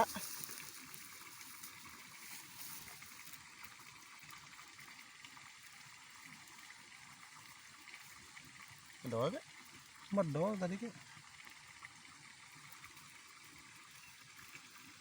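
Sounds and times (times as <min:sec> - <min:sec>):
faint water trickle: 0:00.0 - 0:15.0.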